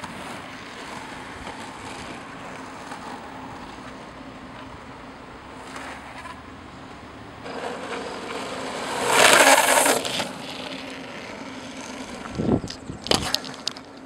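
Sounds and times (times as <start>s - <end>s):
longboard wheels sliding on asphalt: 0.0s - 14.0s
wheels rolling: 0.0s - 14.0s.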